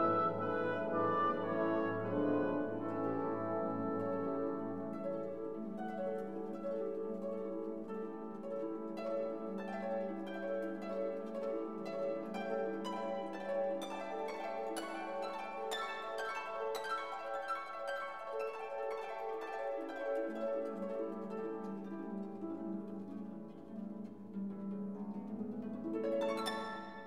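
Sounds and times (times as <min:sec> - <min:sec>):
harp-like plucked music: 0:00.0 - 0:27.0.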